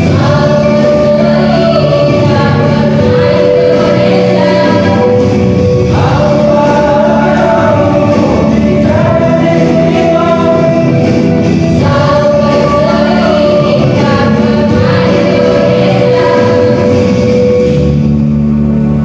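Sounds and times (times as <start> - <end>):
choir singing in harmony: 0.0 - 18.2.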